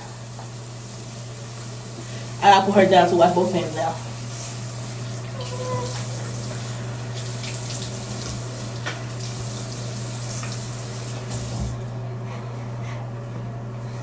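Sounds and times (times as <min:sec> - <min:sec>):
tap water running into sink: 0:00.0 - 0:11.8.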